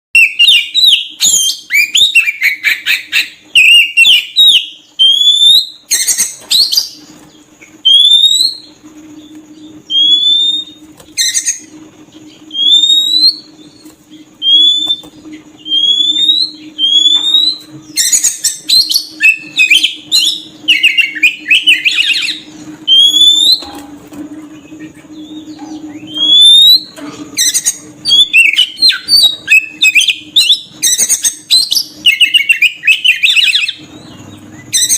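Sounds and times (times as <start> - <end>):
songbird whistling and warbling: 0.2 - 23.8, 24.5 - 34.9.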